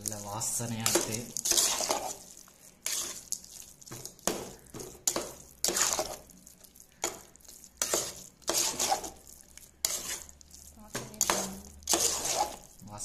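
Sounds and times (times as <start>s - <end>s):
spoon stirring thick wet mixture: 0.0s - 13.0s.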